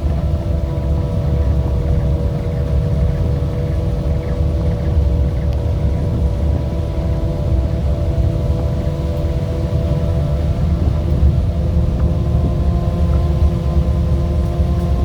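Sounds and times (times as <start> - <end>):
heavy low rumble: 0.0 - 15.0
vehicle engine running: 0.0 - 15.0.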